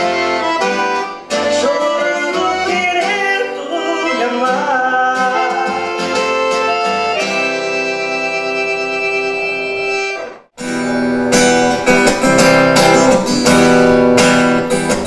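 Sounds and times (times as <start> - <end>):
accordion: 0.0 - 14.4
strummed acoustic guitar: 0.0 - 15.0.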